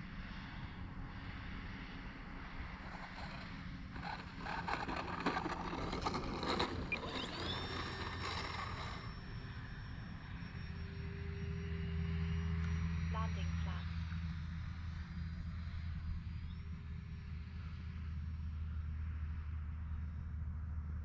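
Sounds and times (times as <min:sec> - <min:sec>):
model plane motor whine: 0:00.1 - 0:20.8.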